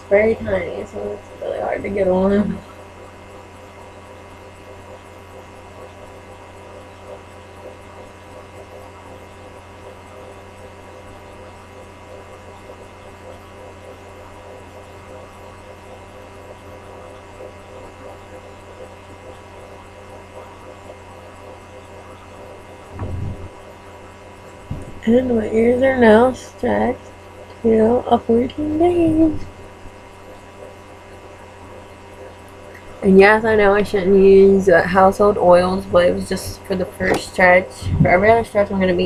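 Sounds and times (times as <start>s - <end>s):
electrical mains hum: 0.0s - 39.0s.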